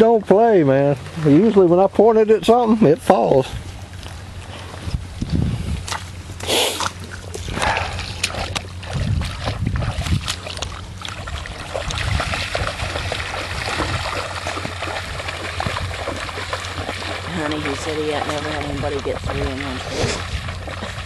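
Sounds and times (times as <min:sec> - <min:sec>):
footsteps splashing through water: 0:03.6 - 0:21.0.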